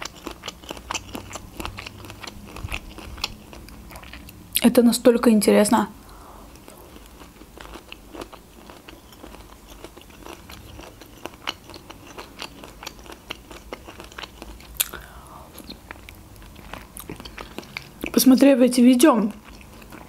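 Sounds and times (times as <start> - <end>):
mouth chewing soft food: 0.0 - 4.4, 6.0 - 18.2, 19.3 - 20.0.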